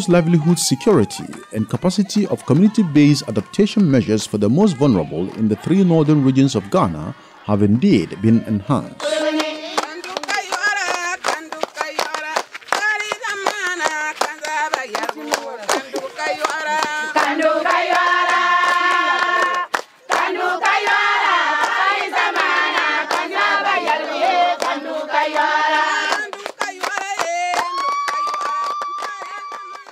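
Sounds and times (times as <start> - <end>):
rhythmic hand clapping: 0.0 - 6.9, 9.0 - 29.9
group of voices singing: 0.0 - 27.7.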